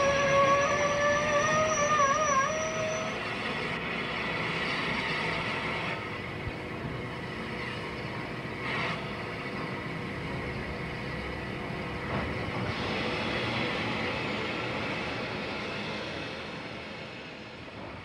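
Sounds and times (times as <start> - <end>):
locomotives rumbling and hissing: 0.0 - 18.0.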